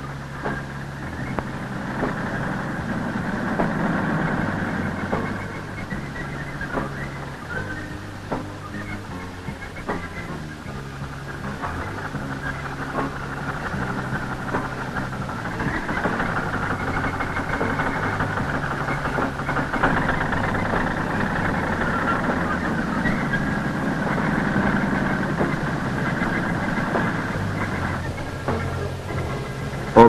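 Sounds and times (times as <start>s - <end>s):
forage harvester chopping and blowing: 0.0s - 30.0s
tractor engine drone: 0.0s - 30.0s.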